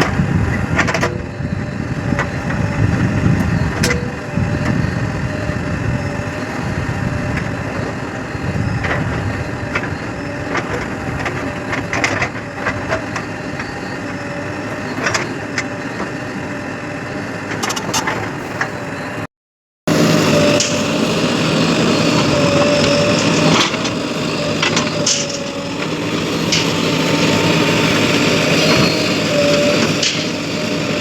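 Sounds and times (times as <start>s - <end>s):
diesel engine running: 0.0s - 19.3s, 19.9s - 31.0s.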